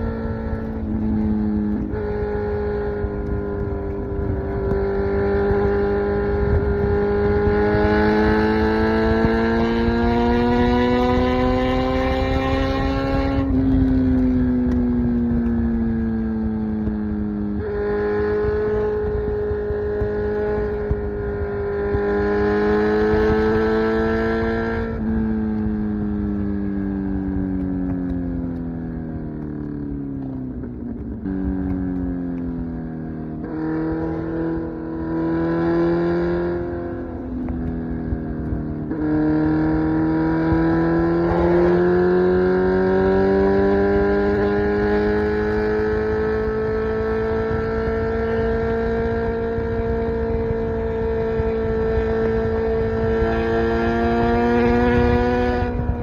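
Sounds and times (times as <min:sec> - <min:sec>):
low wind rumble: 0:00.0 - 0:56.0
motorcycle engine revving: 0:00.0 - 0:56.0.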